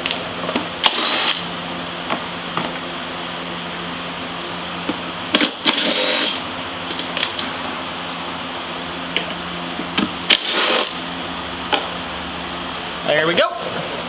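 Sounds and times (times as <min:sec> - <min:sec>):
ventilation fan humming: 0:00.0 - 0:14.0.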